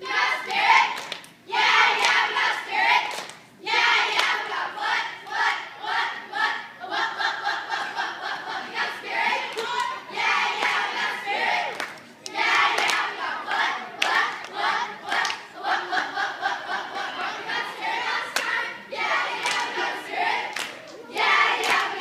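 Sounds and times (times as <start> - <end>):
cheerleaders shouting a cheer: 0.0 - 22.0.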